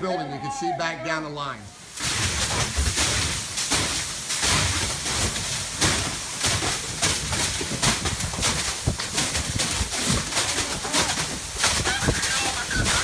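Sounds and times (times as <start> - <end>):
water spattering on walls: 1.2 - 13.0
water spraying from hose nozzle: 1.7 - 13.0.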